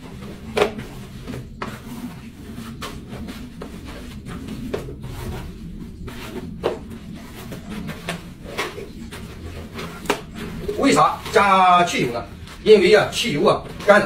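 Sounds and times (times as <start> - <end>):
wet rubbing of net: 0.0 - 14.0.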